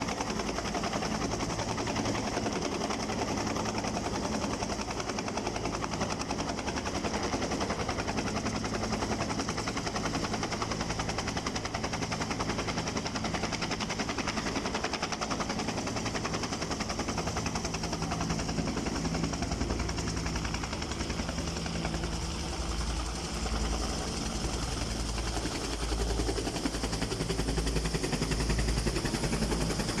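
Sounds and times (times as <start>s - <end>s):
helicopter rotor chopping: 0.0s - 30.0s.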